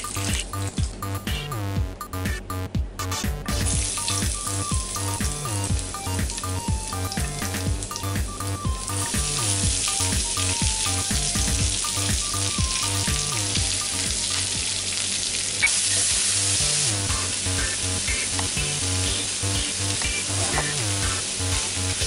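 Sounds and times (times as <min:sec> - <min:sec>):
background music: 0:00.0 - 0:14.9, 0:15.6 - 0:22.0
vegetables sizzling in hot oil: 0:03.6 - 0:08.2, 0:08.8 - 0:22.0.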